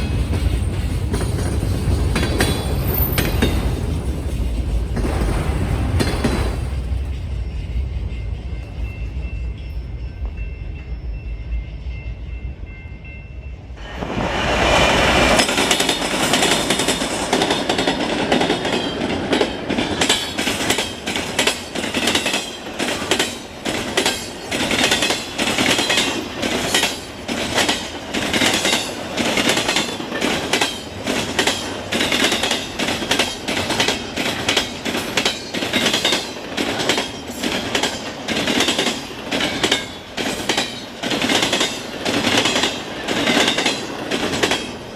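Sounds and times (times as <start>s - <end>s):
train wheels clattering over crossing: 0.0s - 10.5s, 13.8s - 44.9s
train passing: 0.0s - 44.9s.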